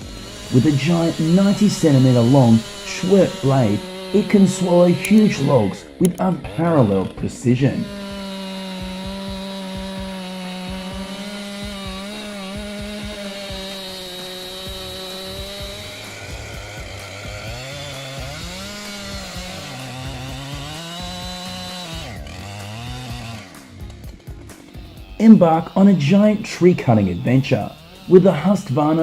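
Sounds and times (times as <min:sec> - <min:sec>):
chainsaw cutting a log: 0:00.0 - 0:29.0.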